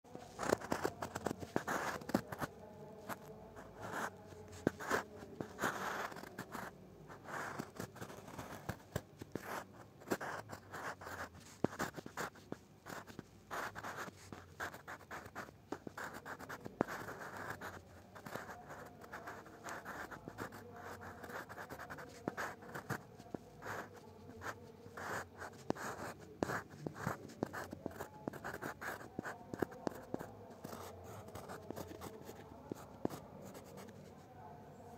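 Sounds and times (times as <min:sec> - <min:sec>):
pen nib scratching on paper: 0:00.2 - 0:34.2.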